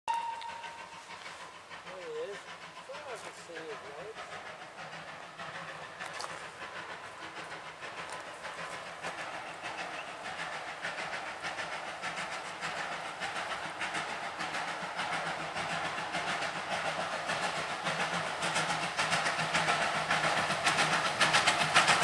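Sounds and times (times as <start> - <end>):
steam locomotive chuffing: 0.1 - 22.0
hiss of steam: 0.2 - 22.0.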